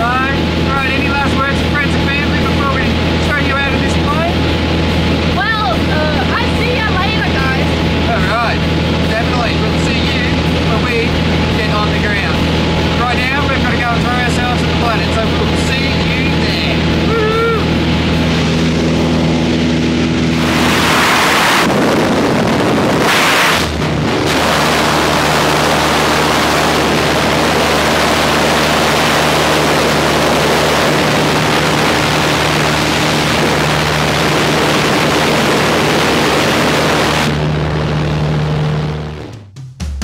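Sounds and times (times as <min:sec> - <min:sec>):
propeller plane engine droning: 0:00.0 - 0:39.5
wind rushing: 0:04.1 - 0:38.2.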